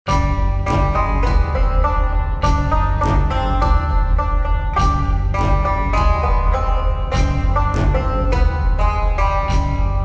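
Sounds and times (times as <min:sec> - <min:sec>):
plucked string instrument: 0:00.1 - 0:10.0
steady low bass: 0:00.1 - 0:10.0.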